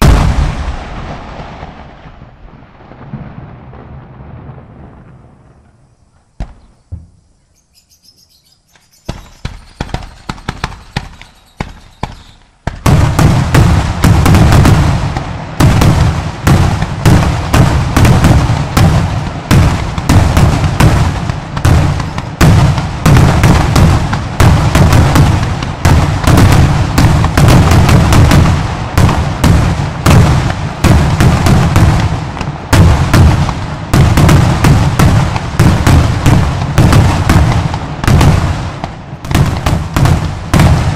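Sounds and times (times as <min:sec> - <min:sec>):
firework bangs: 0:00.0 - 0:07.4, 0:09.0 - 0:40.9.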